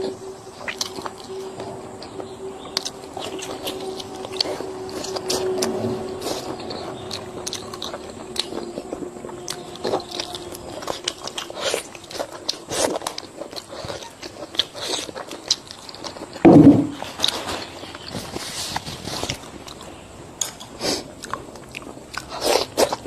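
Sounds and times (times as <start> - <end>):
crunchy biting and chewing: 0.0 - 23.0.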